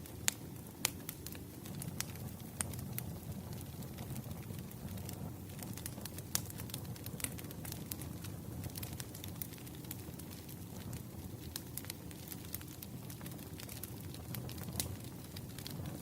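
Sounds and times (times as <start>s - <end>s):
logs crackling and popping: 0.0s - 16.0s
rumble of flames: 0.0s - 16.0s.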